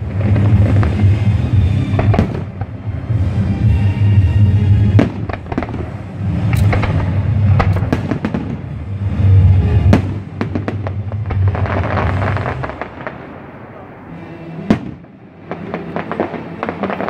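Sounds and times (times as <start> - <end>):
fireworks cracking and banging: 0.0 - 17.0
music playing: 0.0 - 17.0.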